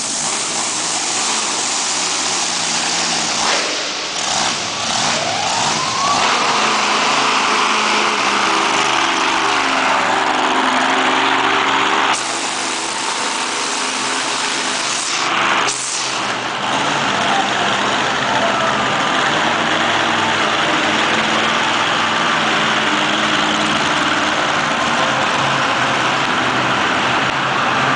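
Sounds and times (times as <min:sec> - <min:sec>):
truck engine running loud: 0:00.0 - 0:27.9.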